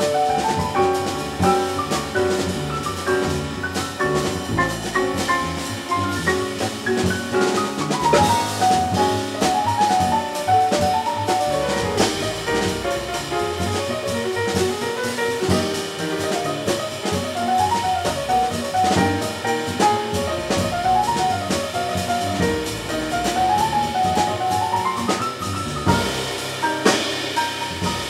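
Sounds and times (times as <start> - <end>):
drum kit cymbal and drum strokes: 0.0 - 28.0
grand piano melody: 0.0 - 28.0
upright double bass: 0.0 - 28.0.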